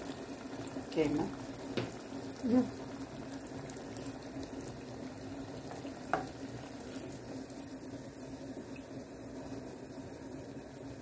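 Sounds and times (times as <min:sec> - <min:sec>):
dough frying in hot oil: 0:00.0 - 0:11.0.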